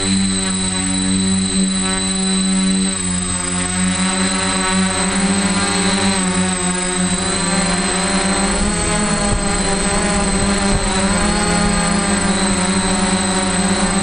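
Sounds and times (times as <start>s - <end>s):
drone motors buzzing: 0.0s - 14.0s
steady high whine: 0.0s - 14.0s.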